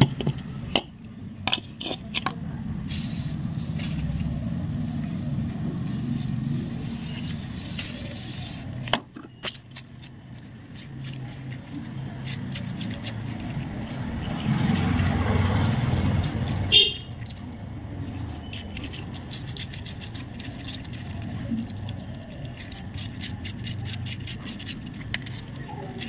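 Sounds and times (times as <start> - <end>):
motor vehicle rumbling: 0.0 - 26.0.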